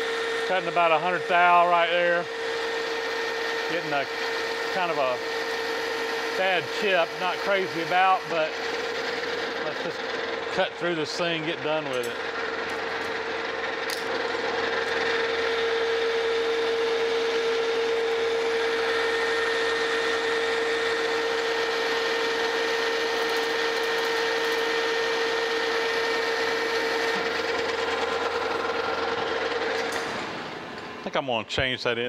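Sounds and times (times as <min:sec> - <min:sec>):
lathe machine hum: 0:00.0 - 0:31.2
higher whine: 0:00.0 - 0:32.0.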